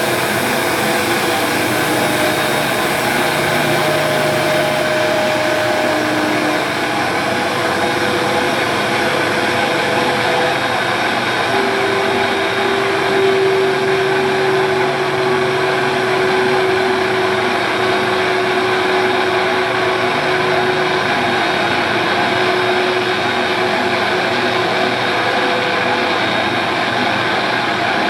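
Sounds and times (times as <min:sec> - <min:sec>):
distorted electric guitars and bass: 0:00.0 - 0:28.0.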